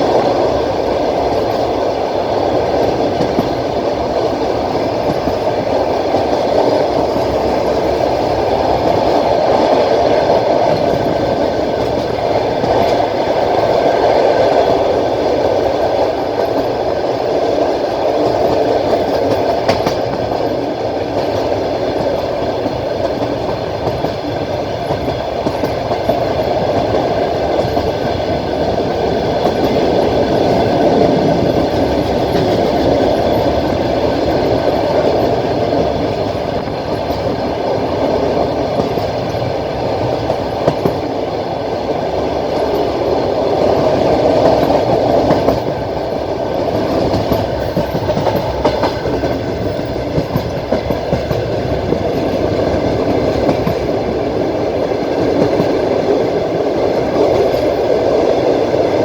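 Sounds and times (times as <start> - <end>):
train wheels clicking: 0.0 - 59.0
train wheels rumbling on rails: 0.0 - 59.0.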